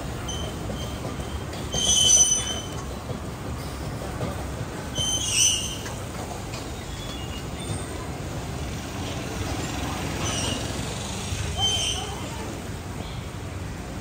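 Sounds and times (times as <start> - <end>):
low rumble of street noise: 0.0 - 14.0.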